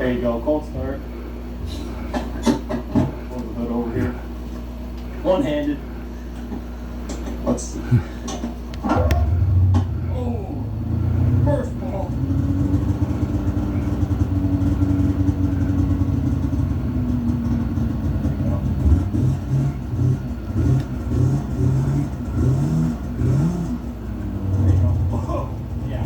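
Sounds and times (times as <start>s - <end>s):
engine fast idle and revving: 0.0s - 26.0s.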